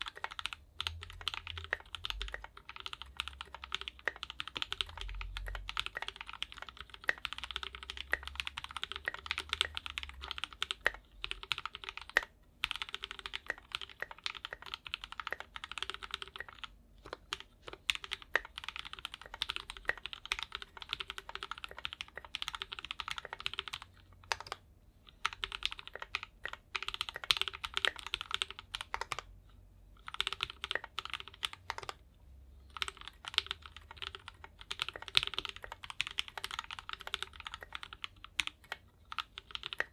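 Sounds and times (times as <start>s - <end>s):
mechanical keyboard typing: 0.0s - 29.3s, 30.0s - 32.0s, 32.6s - 39.9s.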